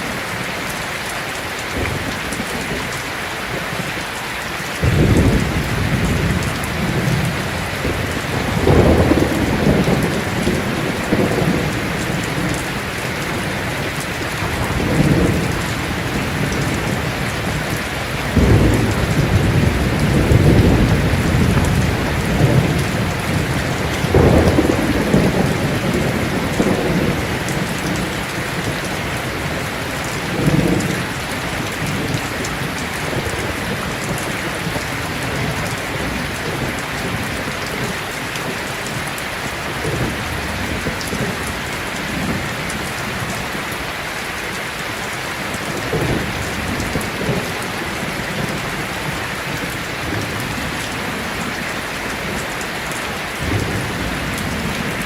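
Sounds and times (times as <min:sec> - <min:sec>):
heavy rain falling: 0:00.0 - 0:55.0
low thunder rumbling: 0:04.8 - 0:43.7, 0:45.5 - 0:55.0.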